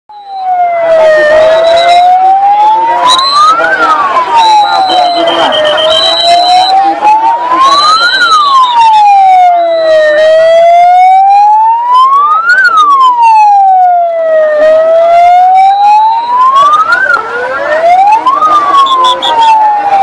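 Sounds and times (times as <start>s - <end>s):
wailing siren: 0.1s - 20.0s.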